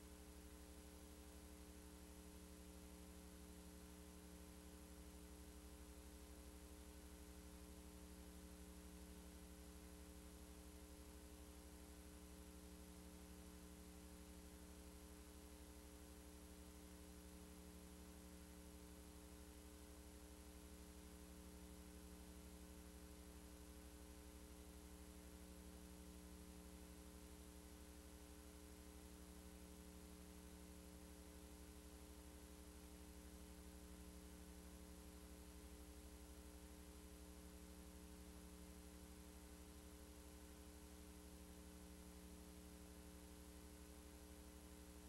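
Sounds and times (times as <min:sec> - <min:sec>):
faint electrical hum: 0:00.0 - 0:45.0.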